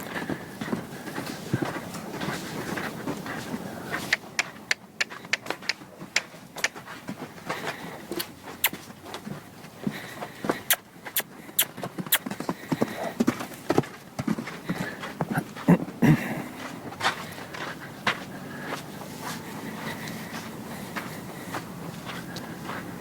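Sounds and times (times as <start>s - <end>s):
hoofbeats on hard ground: 0.0s - 23.0s.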